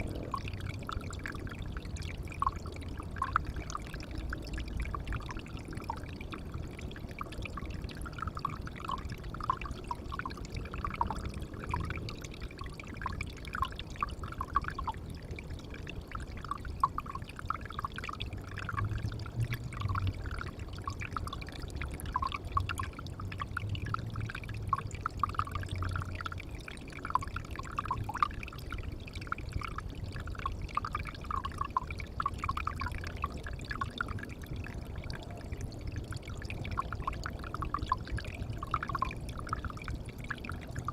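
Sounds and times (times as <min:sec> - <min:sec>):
bubbly plinks: 0:00.0 - 0:40.9
water trickling into pond: 0:00.0 - 0:40.9.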